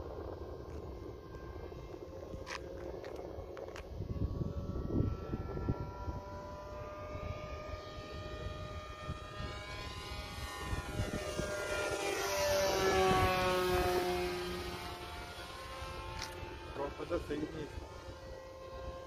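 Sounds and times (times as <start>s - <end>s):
model plane electric motor whining: 0.0s - 19.0s.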